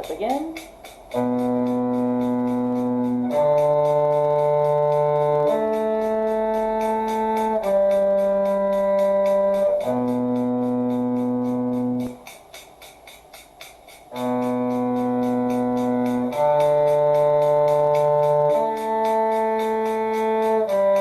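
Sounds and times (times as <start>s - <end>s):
sustained string notes: 0.0s - 13.1s, 14.1s - 21.0s.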